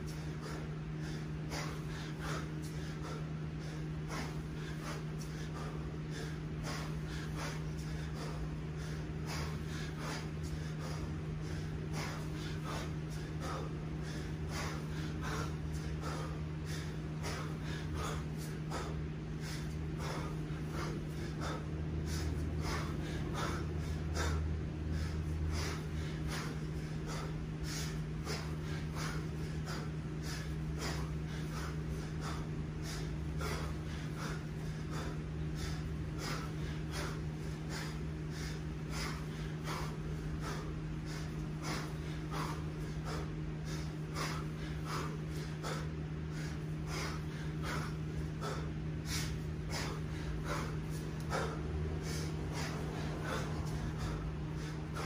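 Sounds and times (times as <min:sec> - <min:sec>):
low hum: 0:00.0 - 0:55.0
man breathing hard: 0:00.0 - 0:55.0.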